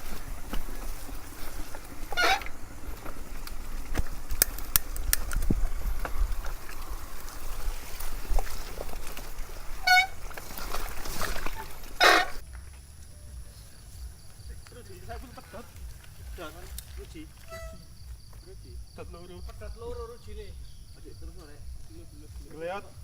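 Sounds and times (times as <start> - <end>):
bike rattling over bumps: 0.0 - 23.0
bike tyres rumbling on trail: 0.0 - 23.0.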